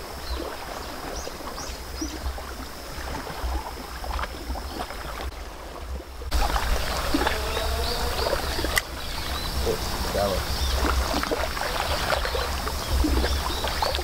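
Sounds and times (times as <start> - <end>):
water lapping on rocky shore: 0.0 - 14.0
wind rumbling on microphone: 0.0 - 14.0.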